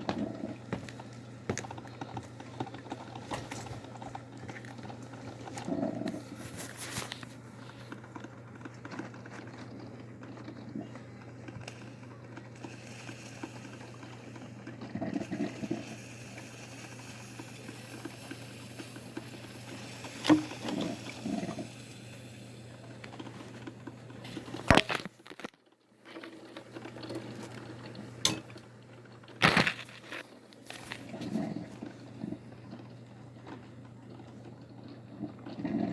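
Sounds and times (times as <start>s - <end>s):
coffee machine humming: 0.0s - 35.9s
water sounds: 0.0s - 35.9s.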